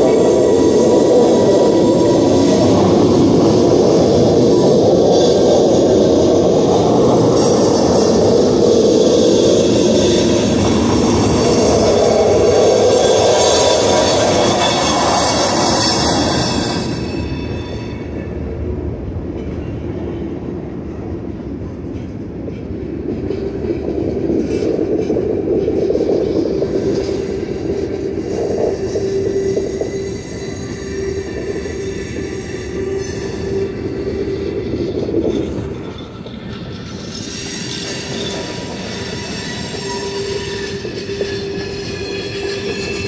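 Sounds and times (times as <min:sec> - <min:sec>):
harsh scraping of freight cars: 0:00.0 - 0:17.9, 0:23.4 - 0:43.0
steady wheel squeal: 0:00.0 - 0:18.1, 0:24.4 - 0:43.0
wheels rumbling on track: 0:00.0 - 0:43.0.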